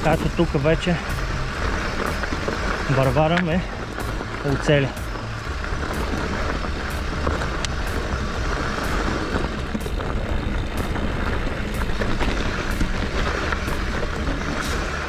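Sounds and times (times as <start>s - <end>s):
mountain bike rolling on dirt: 0.0s - 15.0s
wind rumbling on microphone: 0.0s - 15.0s.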